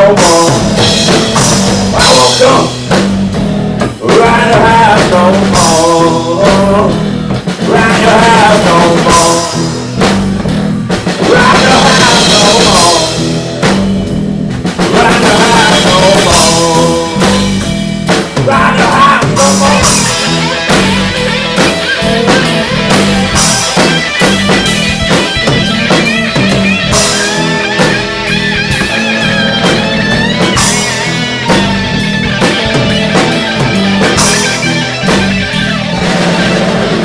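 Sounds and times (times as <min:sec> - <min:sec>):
electric guitar lead: 0:00.0 - 0:37.0
live rock band playing blues: 0:00.0 - 0:37.0.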